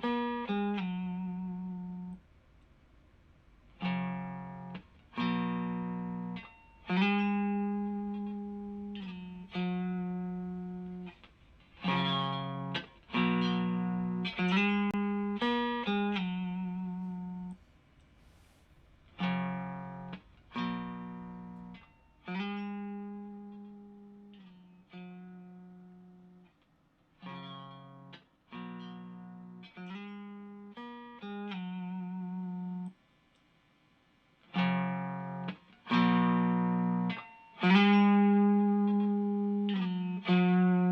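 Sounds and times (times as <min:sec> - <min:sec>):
overdriven electric guitar chords: 0:00.0 - 0:02.2, 0:03.8 - 0:17.6, 0:19.2 - 0:26.5, 0:27.2 - 0:33.0, 0:34.4 - 0:40.9.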